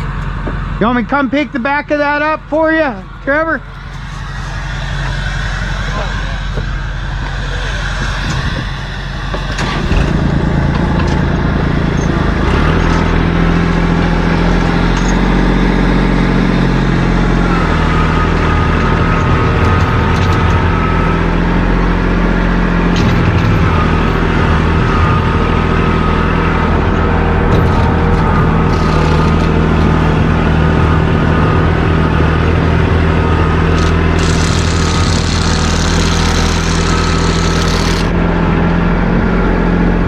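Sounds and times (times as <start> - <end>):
heavy vehicle engine under load: 0.0 - 40.0
steady high whine: 0.0 - 40.0.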